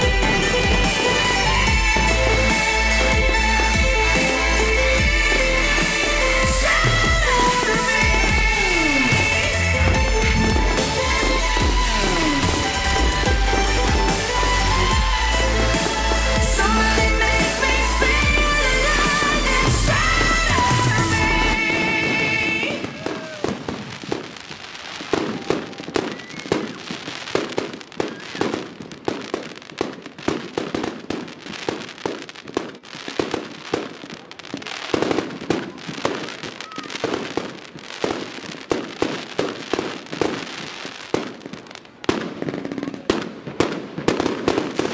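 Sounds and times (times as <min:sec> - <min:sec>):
fireworks crackling and popping: 0:00.0 - 0:44.9.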